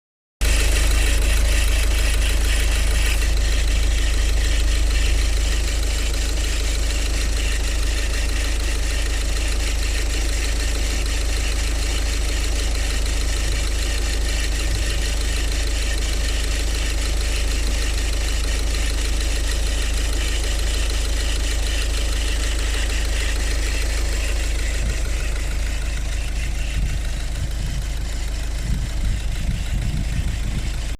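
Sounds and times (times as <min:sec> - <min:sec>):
annoying engine noise: 0:00.4 - 0:30.9
diesel engine idling: 0:00.4 - 0:30.9.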